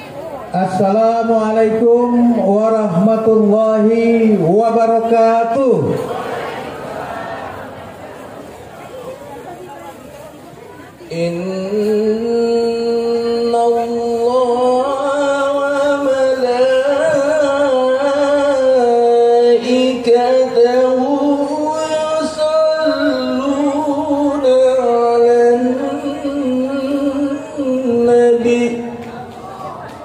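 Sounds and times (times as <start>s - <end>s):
man singing devotional song: 0.5s - 6.1s, 11.1s - 29.7s.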